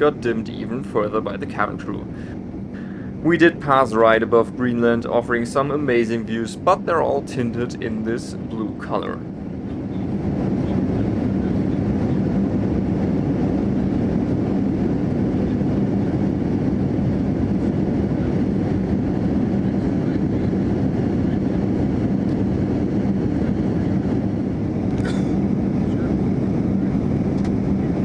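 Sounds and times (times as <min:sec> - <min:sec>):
airflow and engine roar: 0:00.0 - 0:28.0
constant low hum: 0:00.0 - 0:28.0.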